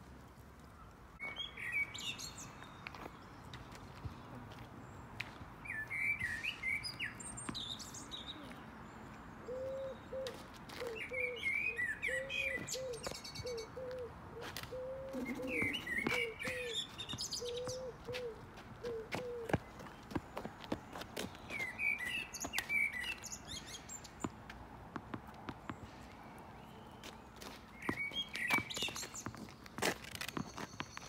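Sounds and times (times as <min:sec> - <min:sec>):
songbirds singing: 0:00.7 - 0:24.4, 0:25.6 - 0:31.0.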